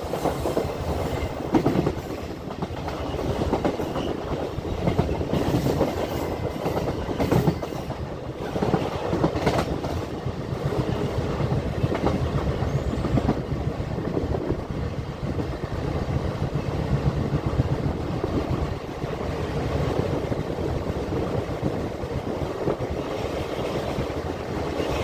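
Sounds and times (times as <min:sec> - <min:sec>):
train coaches rumbling: 0:00.0 - 0:25.0.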